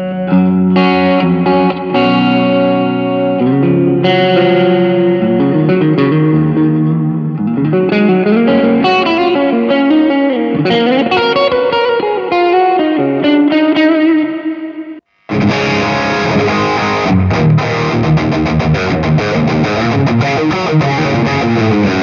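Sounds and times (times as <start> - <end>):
electric guitar lead line: 0.0 - 22.0.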